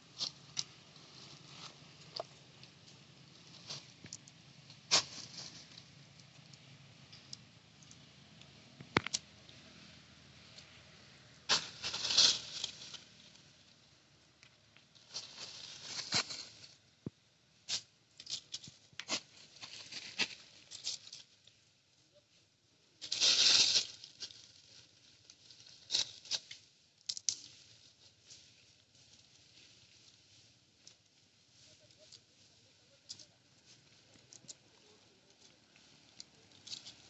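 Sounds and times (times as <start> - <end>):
rustling and crackling: 0.0 - 9.6, 11.5 - 13.5, 14.3 - 16.8, 17.7 - 22.4, 23.0 - 37.0.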